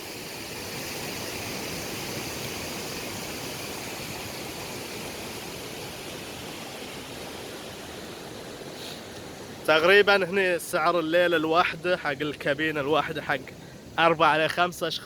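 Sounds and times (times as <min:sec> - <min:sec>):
river flowing: 0:00.0 - 0:15.0
waterfall rushing: 0:00.0 - 0:15.0.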